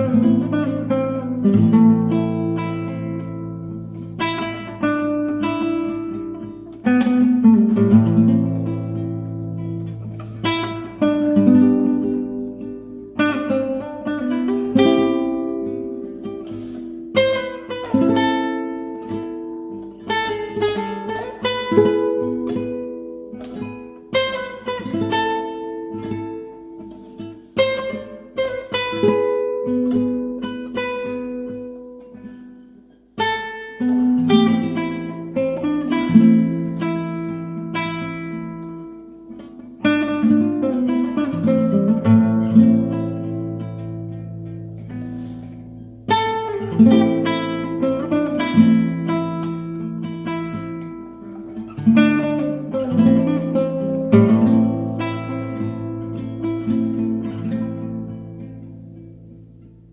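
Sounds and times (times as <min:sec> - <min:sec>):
solo guitar melody: 0:00.0 - 0:59.9.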